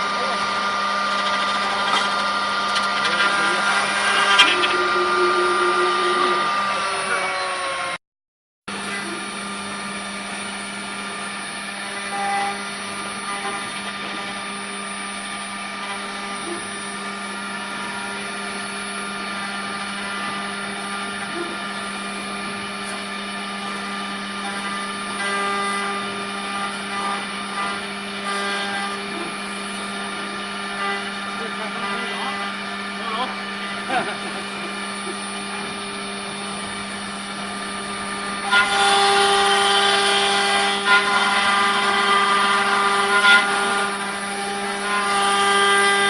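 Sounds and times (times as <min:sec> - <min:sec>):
cnc wood router humming: 0:00.0 - 0:08.0, 0:08.7 - 0:46.0.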